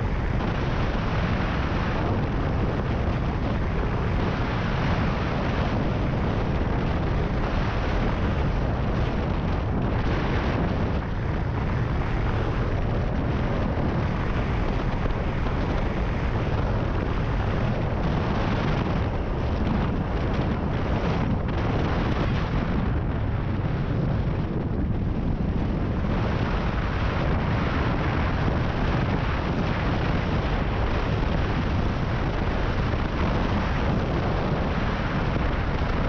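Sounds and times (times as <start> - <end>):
motorcycle engine drone: 0.0 - 36.0
wind on microphone: 0.0 - 36.0.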